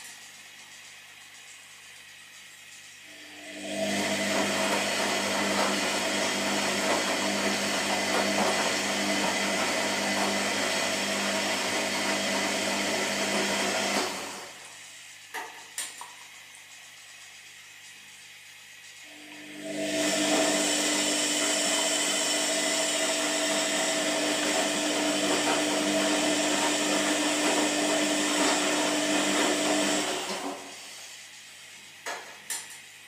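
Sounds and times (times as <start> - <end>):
washing machine motor whirring: 0.0 - 33.0.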